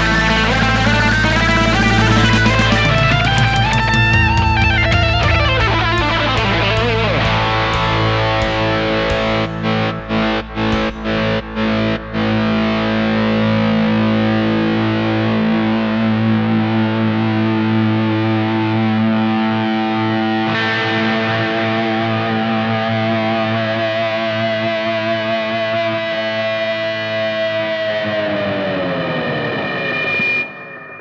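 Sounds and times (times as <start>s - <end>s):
distorted electric guitar with delay: 0.0s - 31.0s.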